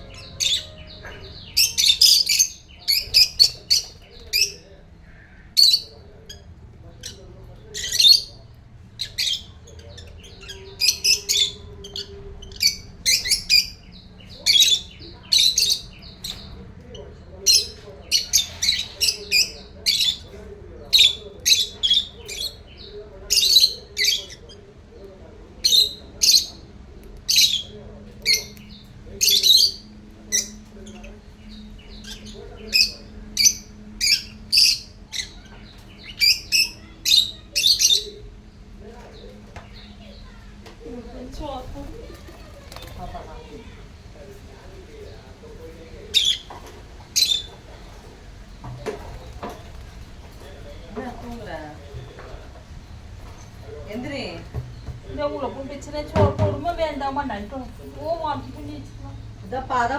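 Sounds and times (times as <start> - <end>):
lovebirds chirping and squawking: 0.0 - 59.9.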